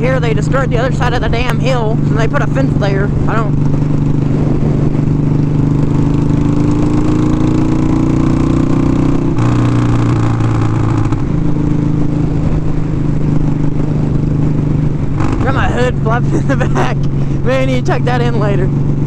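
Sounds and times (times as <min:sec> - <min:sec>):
motorcycle engine running: 0:00.0 - 0:19.0
wind rumbling on microphone: 0:00.0 - 0:19.0.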